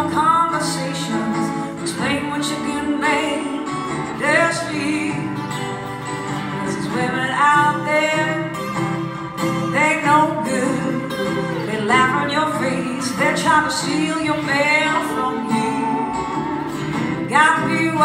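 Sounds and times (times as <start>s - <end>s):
acoustic guitars playing blues: 0.0s - 18.0s.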